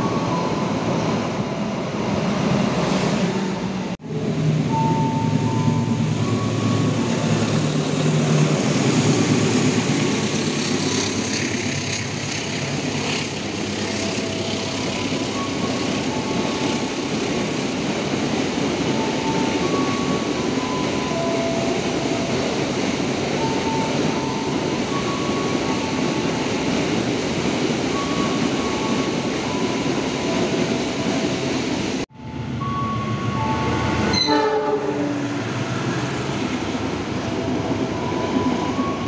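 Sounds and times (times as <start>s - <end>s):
train wheels rumbling and clattering: 0.0s - 32.0s.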